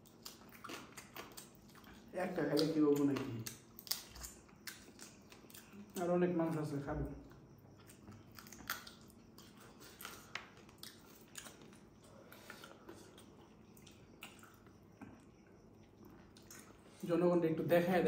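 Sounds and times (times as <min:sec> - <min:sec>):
people chewing and smacking: 0:00.0 - 0:17.1.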